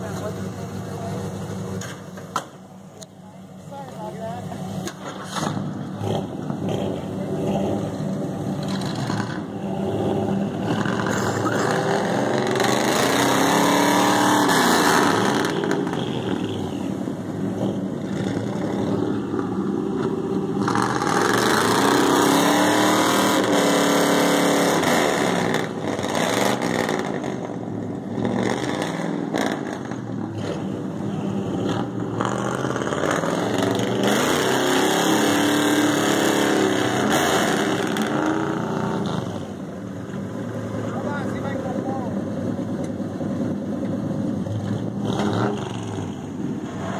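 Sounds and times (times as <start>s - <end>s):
pickup truck engines revving: 3.5s - 46.9s.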